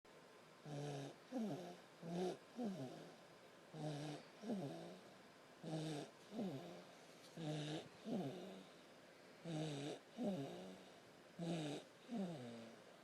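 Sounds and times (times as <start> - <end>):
baby snoring: 0.6 - 8.8, 9.4 - 12.8.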